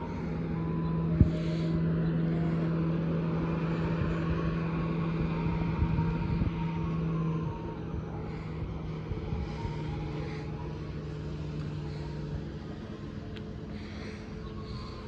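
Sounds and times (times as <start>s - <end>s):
street sweeper engine droning: 0.0s - 15.0s.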